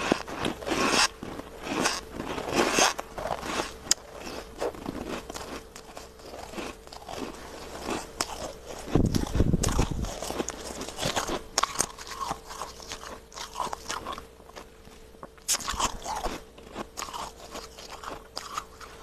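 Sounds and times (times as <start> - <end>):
faint steady hum: 0.0 - 19.0
frost crunching being chewed: 0.0 - 19.0.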